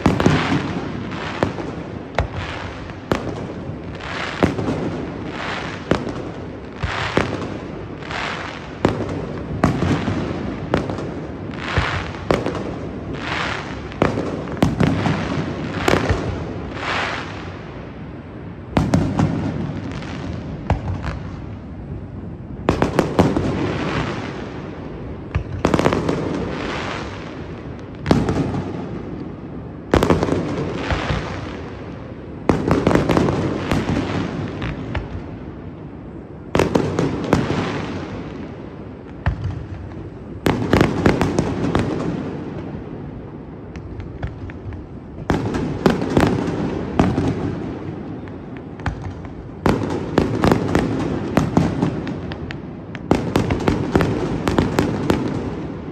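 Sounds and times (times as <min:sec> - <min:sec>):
firework pops and crackles: 0:00.0 - 0:17.5, 0:18.7 - 0:21.7, 0:25.2 - 0:35.4, 0:36.5 - 0:42.8, 0:43.6 - 0:55.9
fireworks bursting with bang: 0:00.0 - 0:55.9
rumbling tail of fireworks: 0:00.0 - 0:55.9.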